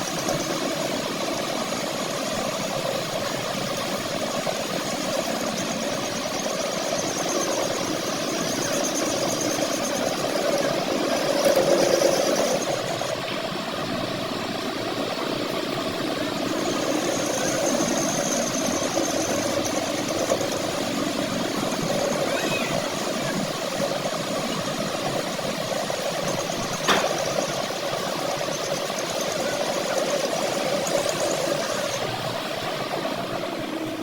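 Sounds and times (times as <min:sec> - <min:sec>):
workshop machinery droning: 0:00.0 - 0:34.0.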